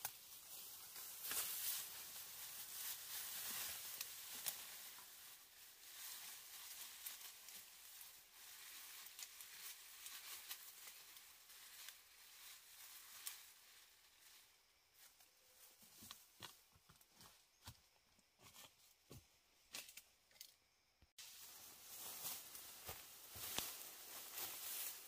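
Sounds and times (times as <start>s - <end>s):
rustling of leaves: 0.0s - 16.4s, 21.2s - 25.0s.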